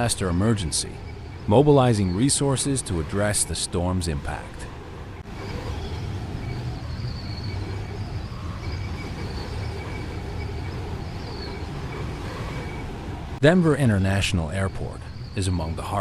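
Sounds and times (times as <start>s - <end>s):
faint high steady tone: 0.0s - 16.0s.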